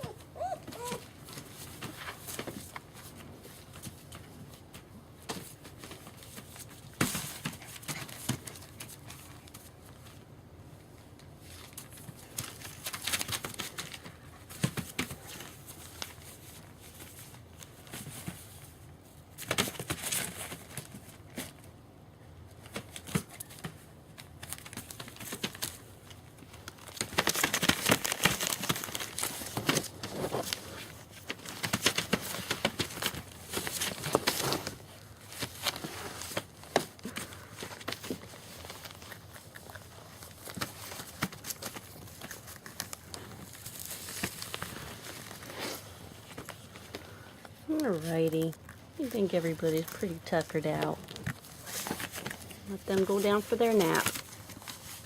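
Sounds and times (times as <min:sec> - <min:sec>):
puppies rustling on bedding: 0:00.0 - 0:21.7, 0:22.5 - 0:55.0
crinkling: 0:00.0 - 0:21.8, 0:22.4 - 0:55.0.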